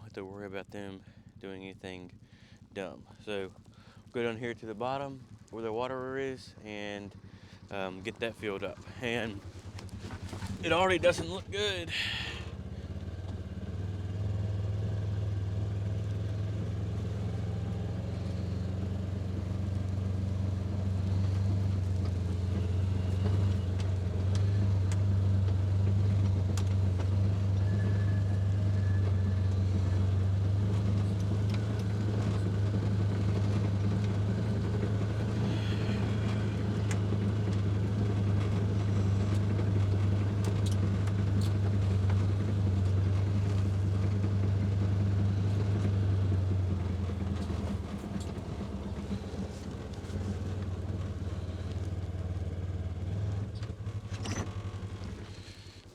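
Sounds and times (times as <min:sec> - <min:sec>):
vehicle engine humming: 0:00.0 - 0:55.9.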